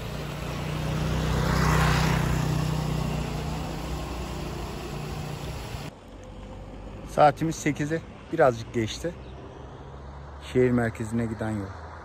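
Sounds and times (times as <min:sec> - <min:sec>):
low engine hum: 0:00.0 - 0:12.0
road noise: 0:00.0 - 0:12.0
vehicle passing by: 0:00.0 - 0:12.0.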